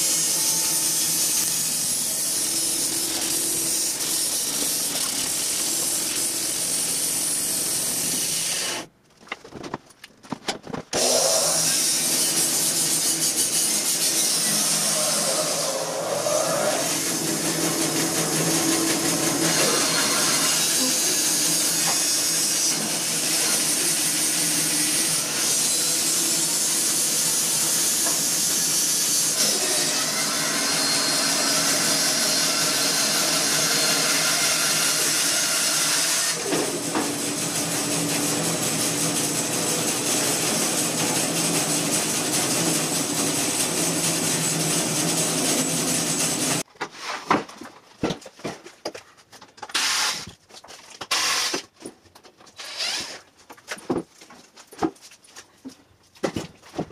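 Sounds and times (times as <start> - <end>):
bandsaw cutting log: 0.0 - 8.9, 10.9 - 46.7, 49.6 - 50.3, 51.0 - 51.7, 52.6 - 53.3.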